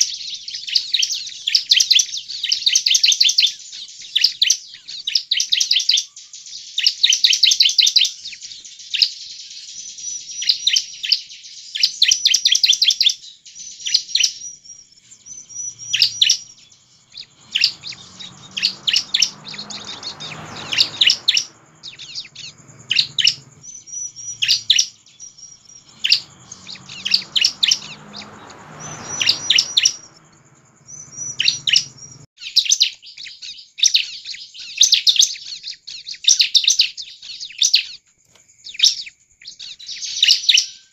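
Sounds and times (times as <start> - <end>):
bird singing rapid chirps and trills: 0.0 - 40.9.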